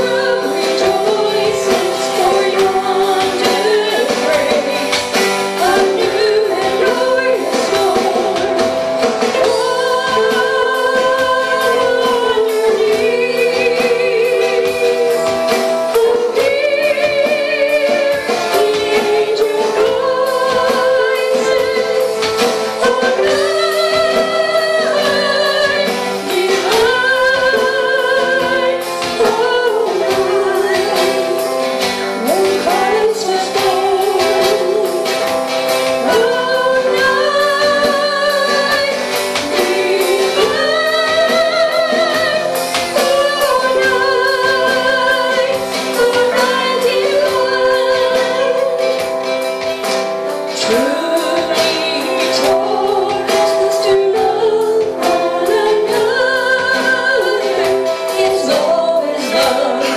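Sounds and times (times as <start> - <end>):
acoustic guitar: 0.0 - 59.9
drums with steady beat: 0.0 - 59.9
keyboard: 0.0 - 59.9
women singing with vibrato: 0.0 - 59.9.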